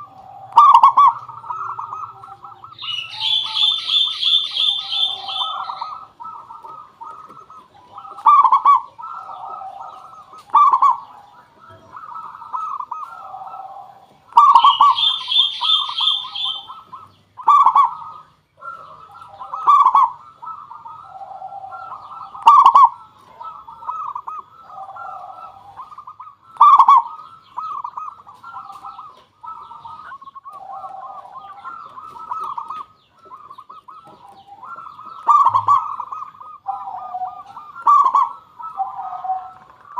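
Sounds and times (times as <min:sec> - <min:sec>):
high pulsed bird call: 0:00.0 - 0:13.6, 0:14.3 - 0:39.9
doves cooing: 0:00.0 - 0:39.9.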